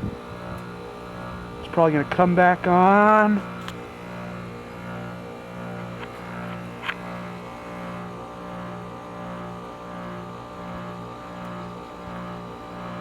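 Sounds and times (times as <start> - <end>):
heat pump compressor humming: 0.0 - 13.0.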